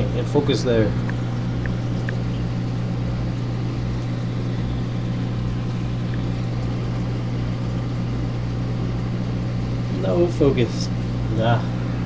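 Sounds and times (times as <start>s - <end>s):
equipment humming: 0.0s - 12.0s.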